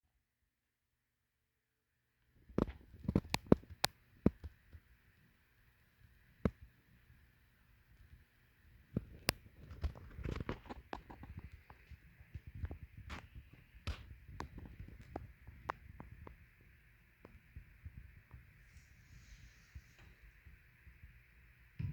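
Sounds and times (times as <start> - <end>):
faint steady hum: 1.9 - 21.9.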